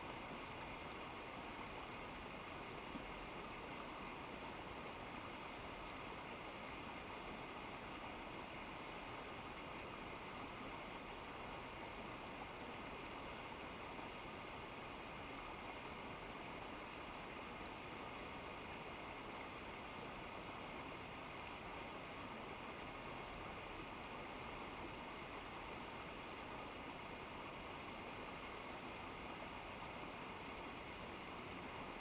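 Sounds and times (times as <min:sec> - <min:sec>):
mountain stream rushing: 0:00.0 - 0:32.0.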